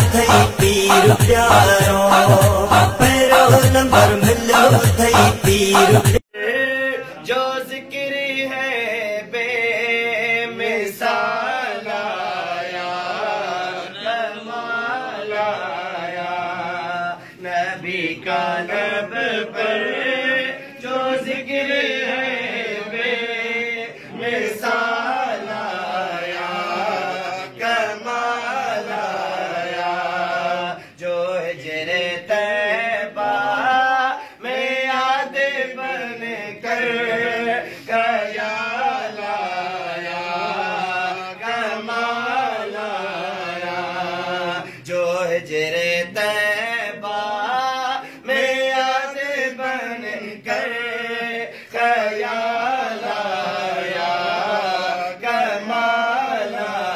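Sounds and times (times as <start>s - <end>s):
man chanting devotional song: 0.0s - 56.9s.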